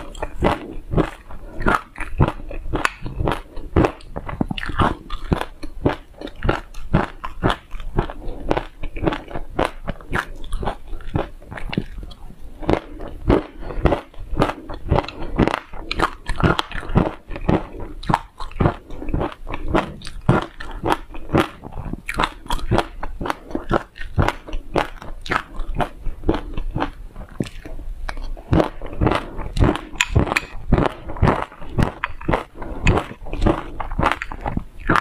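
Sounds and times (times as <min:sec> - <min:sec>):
chewing and crunching seeds: 0:00.0 - 0:35.0.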